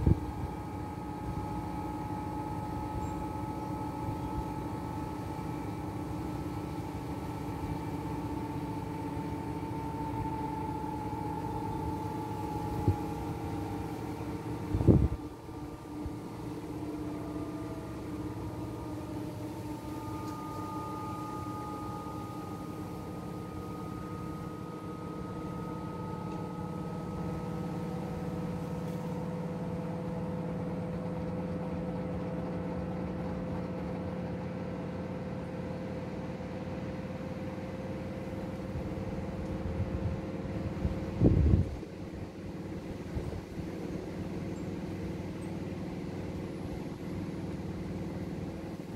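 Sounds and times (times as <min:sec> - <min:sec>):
washing machines whining: 0:00.0 - 0:48.9.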